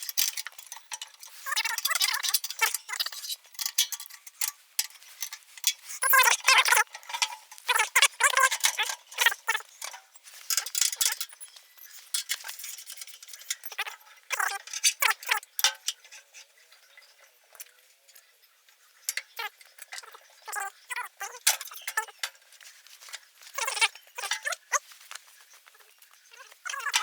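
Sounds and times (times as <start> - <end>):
metal tools clinking: 0.0 - 27.0.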